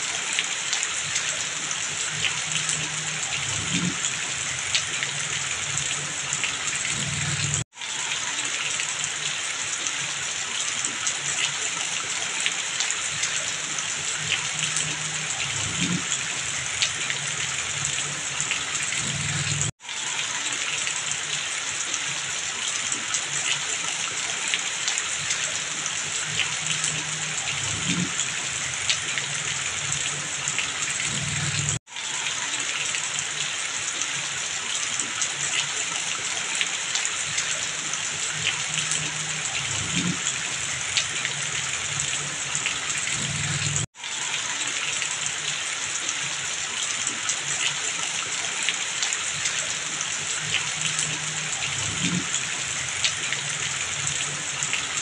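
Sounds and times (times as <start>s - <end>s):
heavy rain falling: 0.0s - 55.0s
water streaming and splashing: 0.0s - 55.0s.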